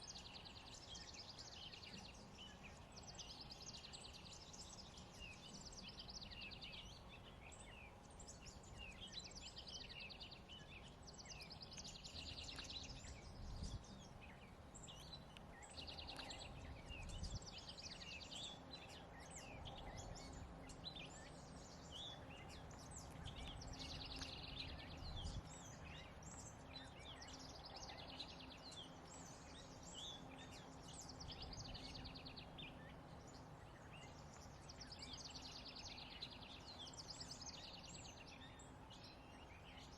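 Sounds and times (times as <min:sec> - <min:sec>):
bird chirps: 0:00.0 - 0:39.9
songbirds trilling: 0:00.0 - 0:39.9.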